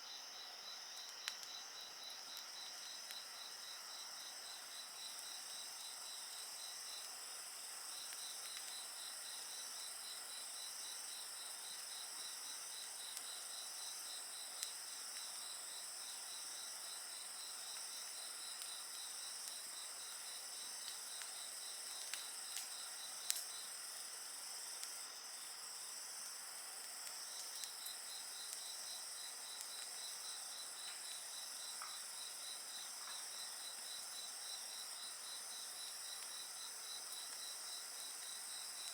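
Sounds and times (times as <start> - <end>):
insect chorus: 0.0 - 38.9
wood fire crackling: 0.8 - 38.9.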